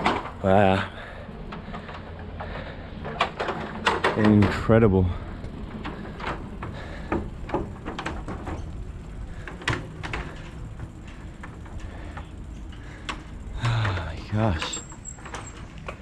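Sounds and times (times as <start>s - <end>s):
bicycle rolling: 0.0s - 16.0s
sharp clicks and knocks: 1.5s - 4.8s, 5.4s - 16.0s.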